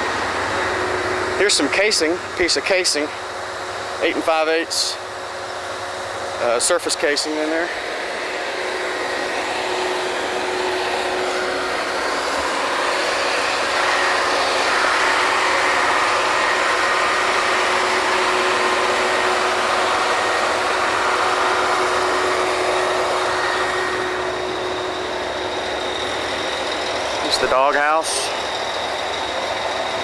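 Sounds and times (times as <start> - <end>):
drilling rig machinery: 0.0 - 30.0.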